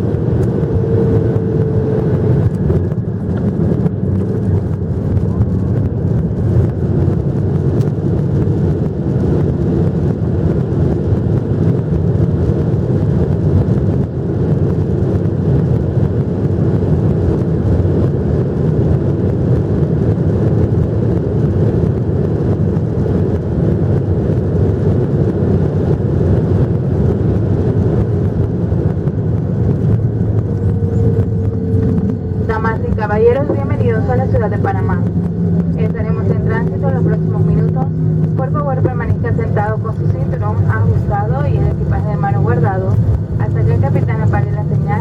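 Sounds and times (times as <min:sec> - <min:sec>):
airliner cabin rumble: 0:00.0 - 0:45.0.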